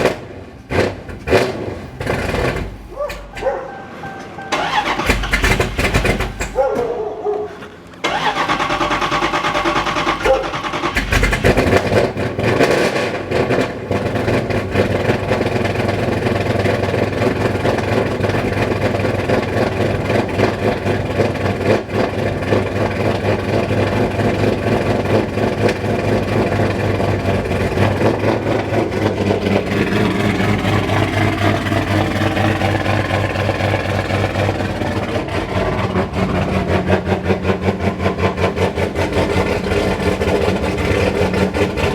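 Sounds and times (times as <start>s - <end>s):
v-eight engine revving: 0.0s - 3.6s, 4.5s - 7.0s, 7.8s - 41.9s.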